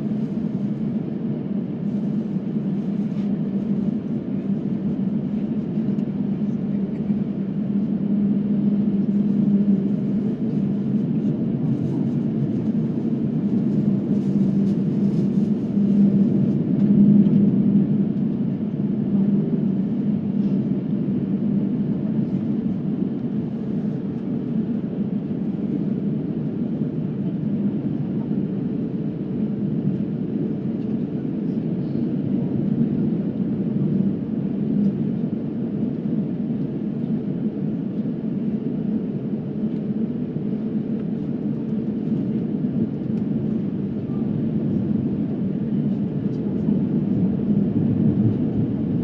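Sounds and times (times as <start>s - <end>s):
jet engines rumbling in cabin: 0.0s - 49.0s.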